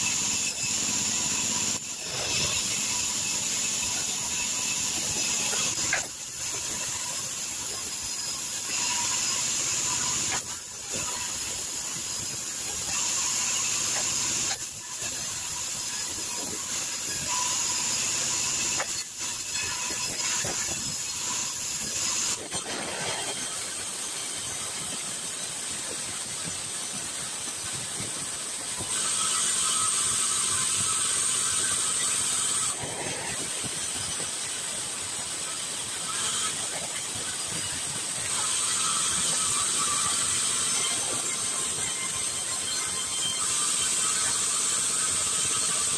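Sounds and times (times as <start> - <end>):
band saw cutting wood: 0.0 - 45.9.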